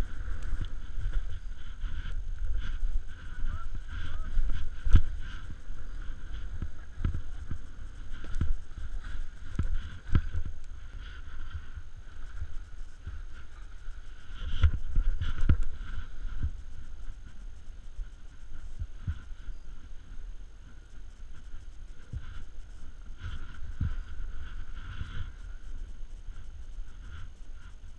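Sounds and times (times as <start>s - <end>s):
snowboard riding through powder: 0.0s - 27.9s
wind rushing over microphone: 0.0s - 27.9s.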